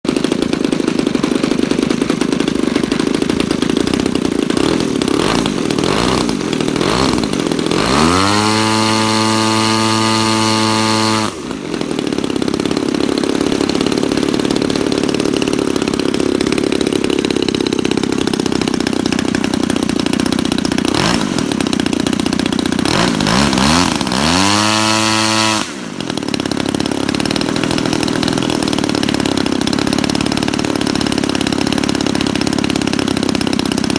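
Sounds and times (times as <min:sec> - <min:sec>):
model aircraft engine revving: 0:00.1 - 0:33.9.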